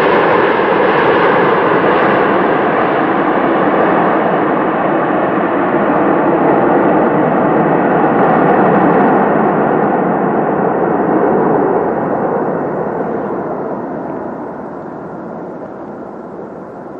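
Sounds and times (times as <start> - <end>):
airplane engine drone: 0.0 - 16.9.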